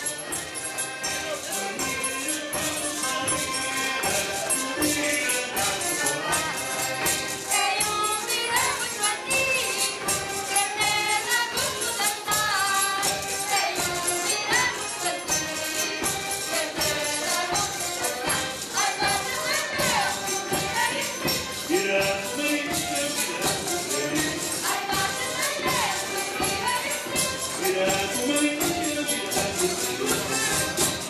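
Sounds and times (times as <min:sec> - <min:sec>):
accordions: 0:00.0 - 0:31.0
triangle and percussion beat: 0:00.0 - 0:31.0
voices singing: 0:00.0 - 0:31.0.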